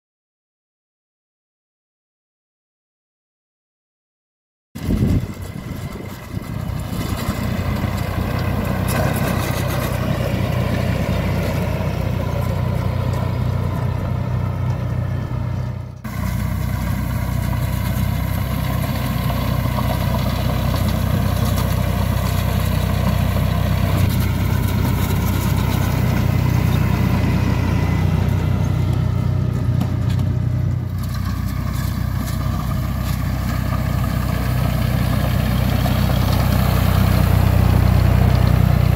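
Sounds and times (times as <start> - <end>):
tractor diesel engine running: 4.8 - 38.9.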